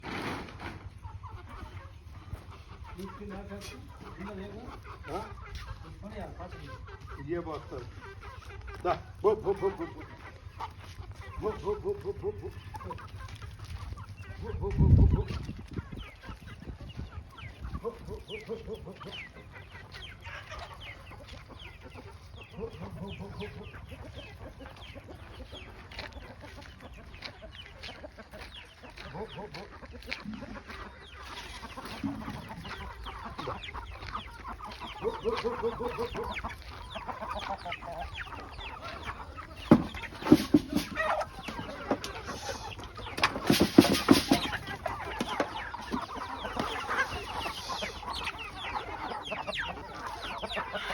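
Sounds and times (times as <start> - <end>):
chickens clucking: 0.0 - 50.9.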